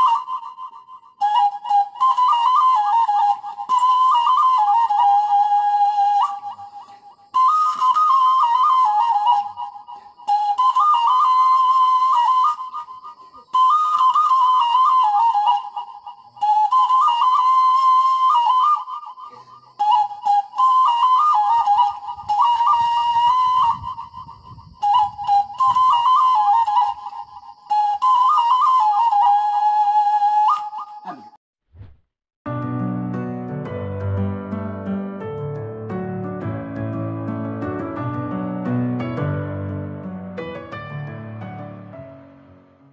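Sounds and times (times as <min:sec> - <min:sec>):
bamboo flute melody: 0:00.0 - 0:31.4, 0:33.6 - 0:42.1.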